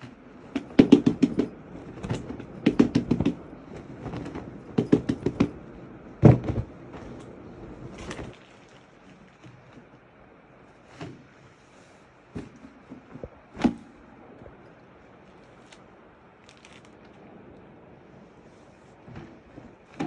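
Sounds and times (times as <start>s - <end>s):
fabric rustling and flapping: 0.0s - 20.0s.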